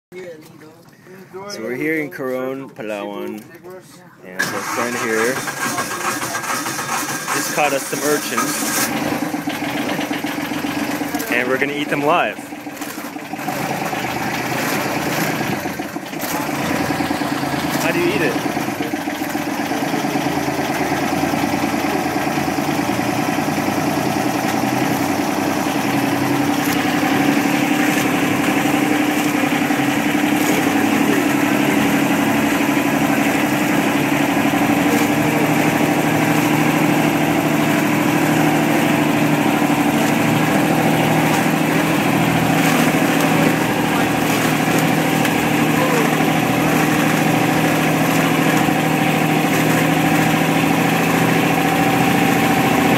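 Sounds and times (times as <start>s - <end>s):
boat engine running: 0.2s - 52.9s.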